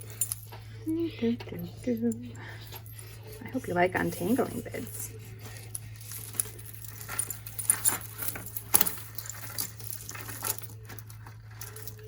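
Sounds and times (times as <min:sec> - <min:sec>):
beads clicking and rattling: 0:01.6 - 0:12.0.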